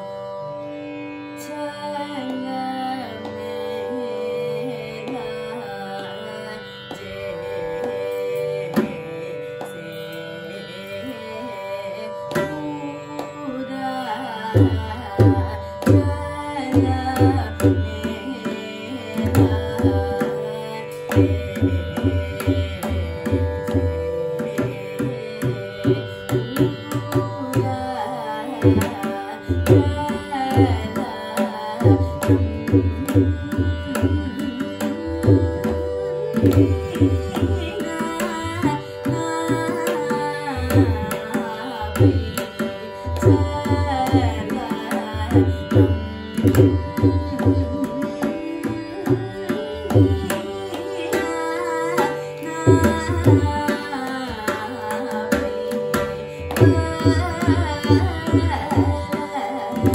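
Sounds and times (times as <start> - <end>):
person singing classical melody: 1.2 - 59.9.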